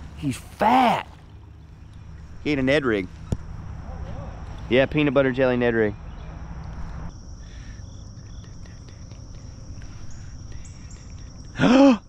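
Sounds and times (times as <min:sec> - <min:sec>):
low steady rumble: 0:00.0 - 0:11.4
insects chorus: 0:00.0 - 0:12.0.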